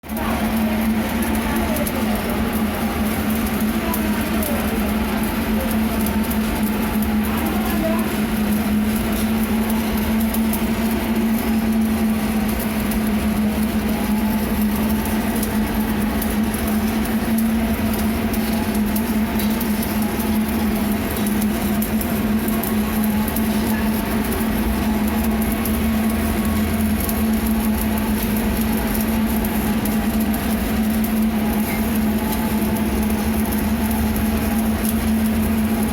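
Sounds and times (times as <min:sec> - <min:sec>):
arc welding crackling: 0:00.0 - 0:35.9.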